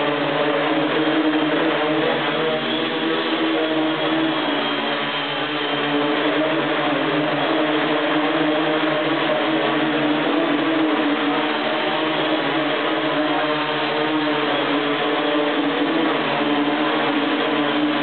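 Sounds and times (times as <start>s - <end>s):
drone motors whirring: 0.0s - 18.0s.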